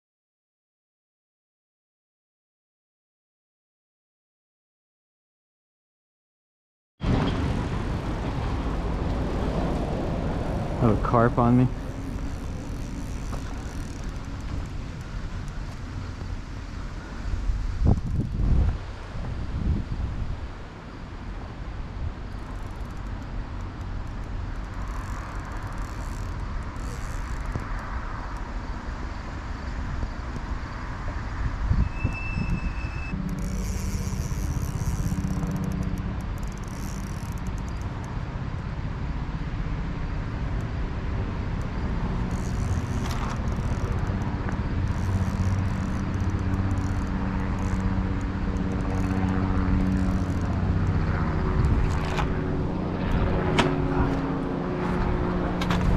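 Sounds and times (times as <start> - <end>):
engine drone with low hum: 7.0 - 55.9
wind rumbling on microphone: 7.0 - 55.9.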